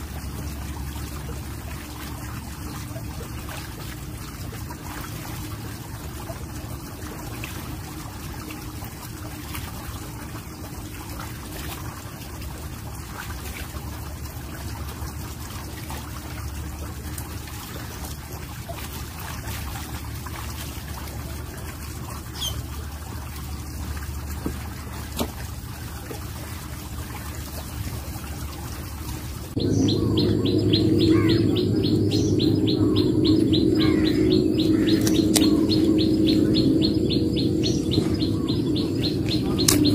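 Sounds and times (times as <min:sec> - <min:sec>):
outdoor ambience: 0:00.0 - 0:39.9.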